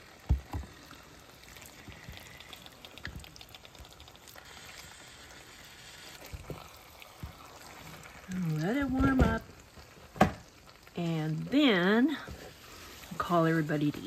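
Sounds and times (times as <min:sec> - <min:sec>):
food sizzling in skillet: 0:00.0 - 0:14.0.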